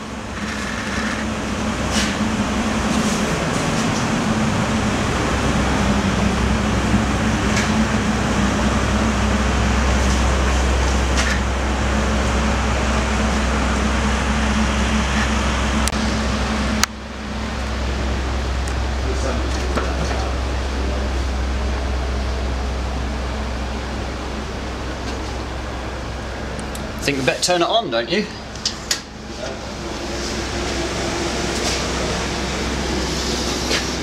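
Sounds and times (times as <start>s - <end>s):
machinery droning with low hum: 0.0s - 34.0s.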